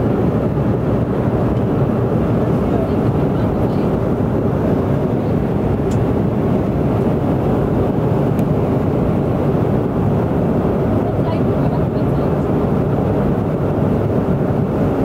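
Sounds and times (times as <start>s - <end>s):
propeller airplane engines rumbling: 0.0s - 15.0s.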